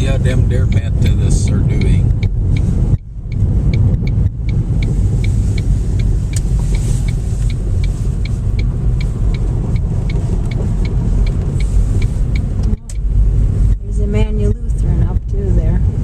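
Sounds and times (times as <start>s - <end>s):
car driving rumble: 0.0s - 16.0s
car turn signal ticking: 0.0s - 16.0s.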